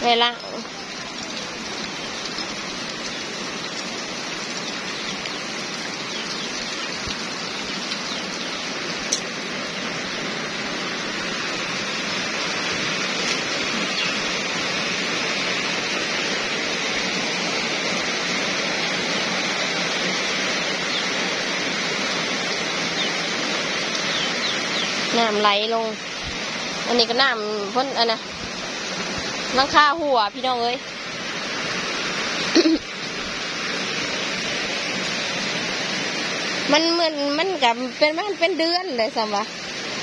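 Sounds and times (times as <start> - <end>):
rain falling on puddles: 0.0 - 40.0.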